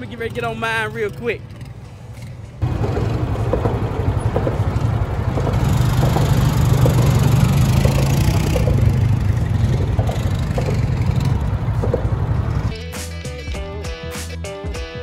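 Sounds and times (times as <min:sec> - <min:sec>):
atv engine rumbling: 0:00.0 - 0:12.7.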